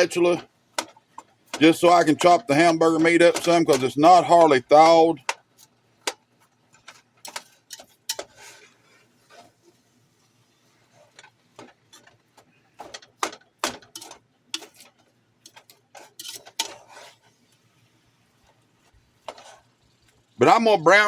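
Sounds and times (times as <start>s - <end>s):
metal spatula chopping meat in pan: 0.0s - 9.7s, 10.9s - 17.4s, 19.1s - 19.9s.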